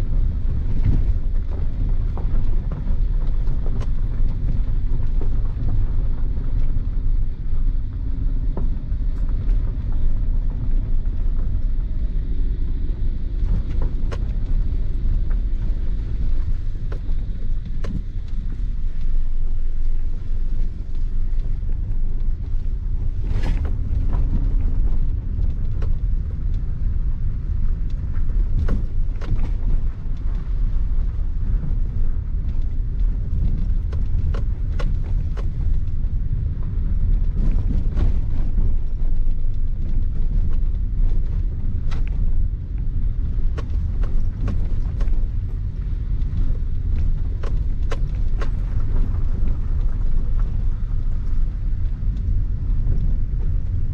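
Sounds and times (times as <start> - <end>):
car engine and tyres rumbling: 0.0 - 53.9
car knocking and creaking: 0.0 - 53.9.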